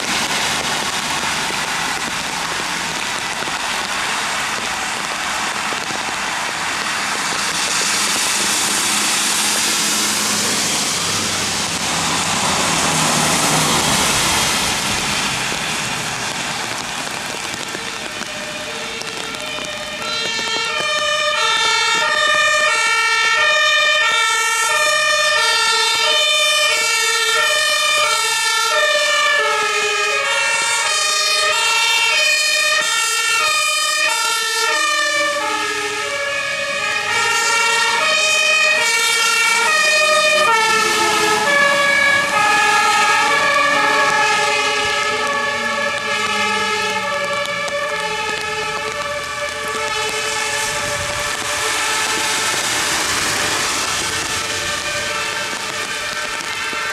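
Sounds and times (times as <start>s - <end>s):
two-tone emergency sirens: 0.0s - 56.9s
tyres hissing on wet road: 0.0s - 56.9s.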